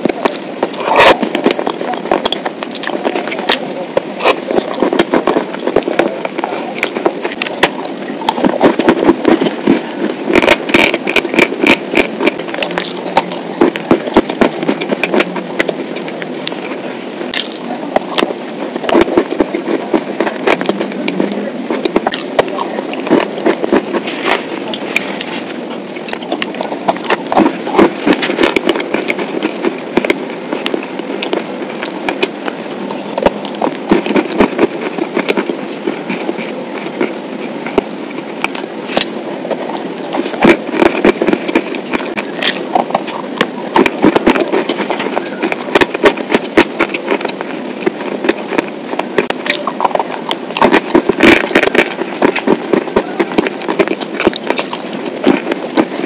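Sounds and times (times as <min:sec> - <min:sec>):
crunching and chewing: 0:00.0 - 0:56.0
sharp crackling snaps: 0:00.0 - 0:56.0.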